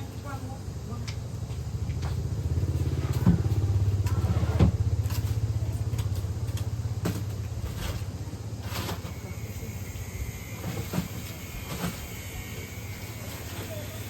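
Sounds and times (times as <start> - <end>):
small motorcycle engine running: 0.1 - 14.0.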